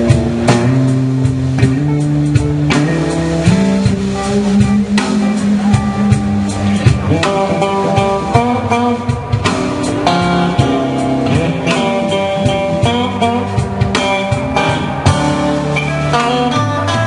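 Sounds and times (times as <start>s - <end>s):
live blues band playing: 0.0s - 17.0s.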